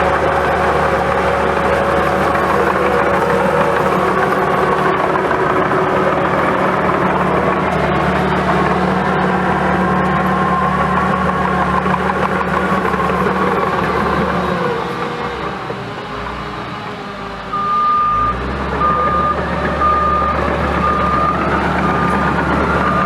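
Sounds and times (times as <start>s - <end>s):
diesel dozer engine running: 0.0s - 23.0s.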